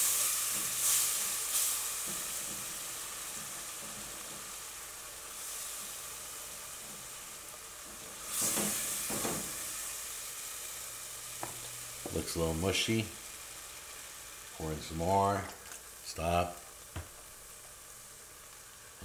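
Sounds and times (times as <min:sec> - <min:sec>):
spatula stirring strokes: 0:00.0 - 0:16.5
onions sizzling in a pot: 0:00.0 - 0:19.0.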